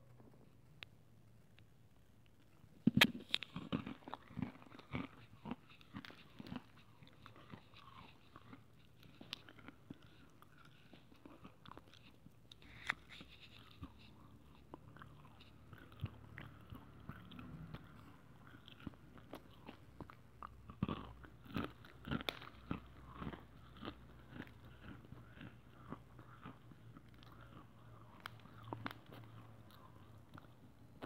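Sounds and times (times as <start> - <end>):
person chewing crunchy clay: 2.2 - 31.0.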